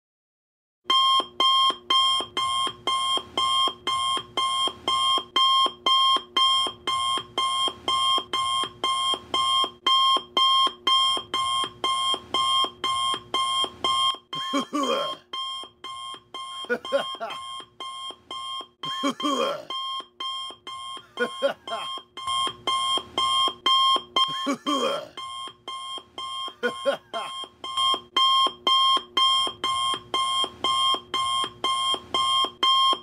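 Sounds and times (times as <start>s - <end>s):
electronic alarm beeping: 0.9s - 24.6s, 25.2s - 33.0s.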